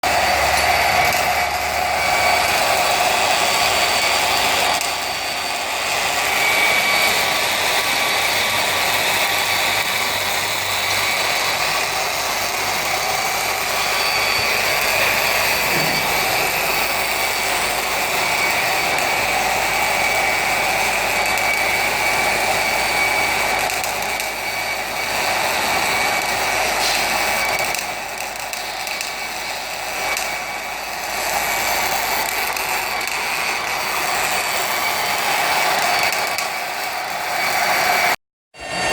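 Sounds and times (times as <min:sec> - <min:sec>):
high machine whine: 0:00.0 - 0:38.9
noisy mechanical sound: 0:00.0 - 0:38.9.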